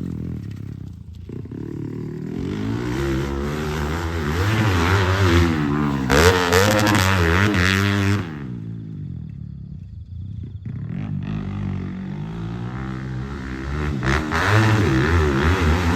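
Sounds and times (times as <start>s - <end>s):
dirt bike engine revving: 0.0s - 9.0s, 10.6s - 15.9s.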